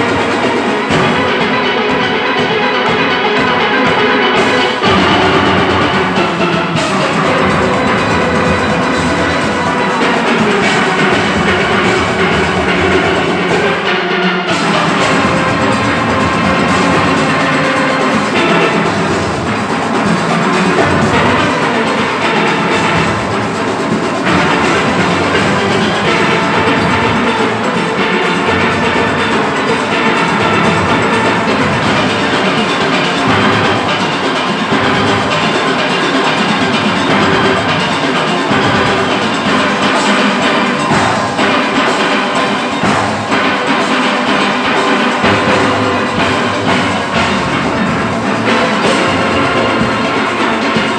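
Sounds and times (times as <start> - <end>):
drums and percussion: 0.0 - 50.9
steelpans playing: 0.0 - 50.9.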